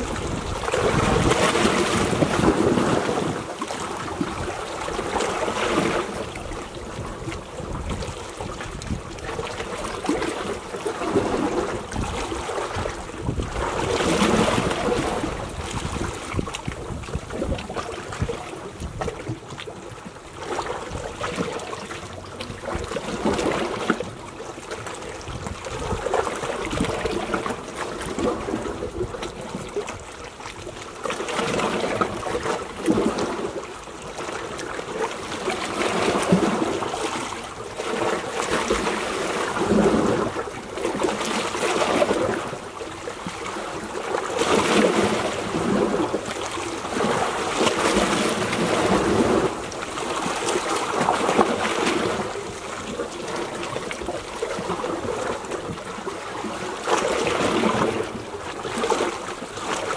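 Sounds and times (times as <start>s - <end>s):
waves lapping against rocks: 0.0s - 59.9s.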